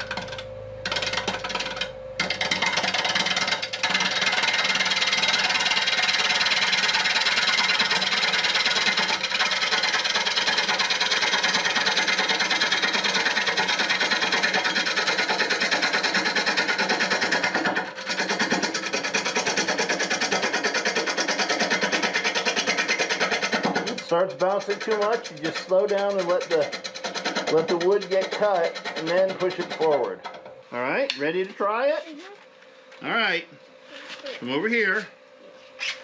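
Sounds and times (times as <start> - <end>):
bowl gouge cutting wood on lathe: 0.0 - 30.5.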